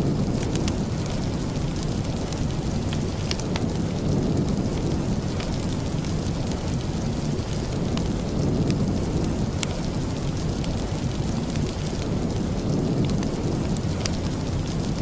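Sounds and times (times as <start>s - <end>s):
fireplace crackles: 0.0s - 15.0s
steady rain rumble: 0.0s - 15.0s.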